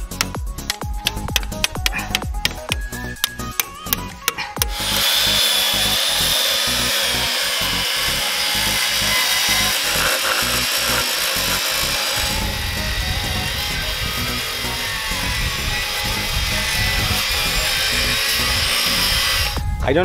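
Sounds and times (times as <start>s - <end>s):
angle grinder cutting rubber: 0.0s - 19.6s.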